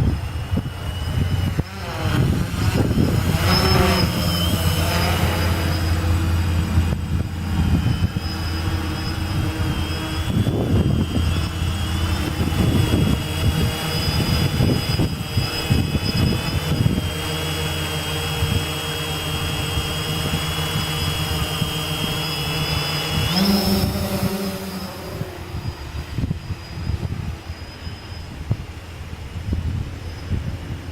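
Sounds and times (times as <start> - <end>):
quadcopter motors whining: 0.0 - 30.9
wind rumbling on microphone: 0.0 - 30.9.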